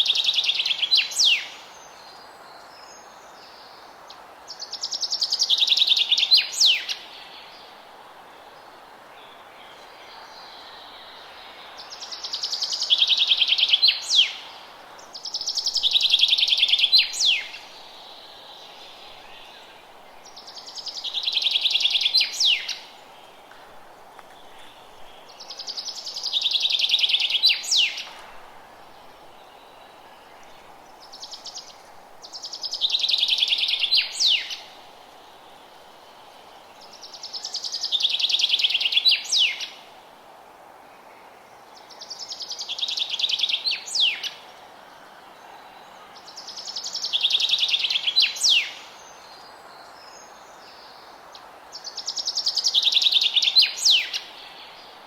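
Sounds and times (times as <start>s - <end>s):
forest ambience rush: 0.0s - 55.0s.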